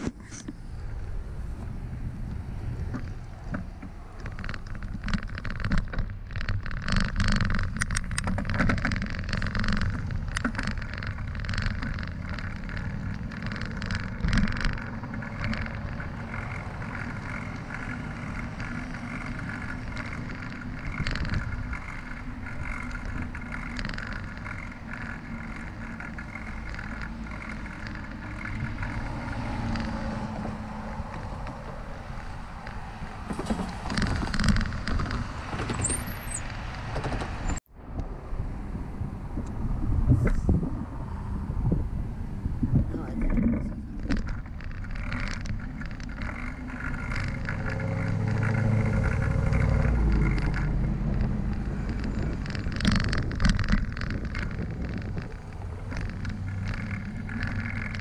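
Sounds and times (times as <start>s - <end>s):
bicycle rattling on rough dirt: 0.0s - 37.6s, 42.0s - 58.0s
bicycle rolling on concrete: 0.0s - 58.0s
road traffic passing: 0.0s - 58.0s
wind on microphone: 7.4s - 58.0s.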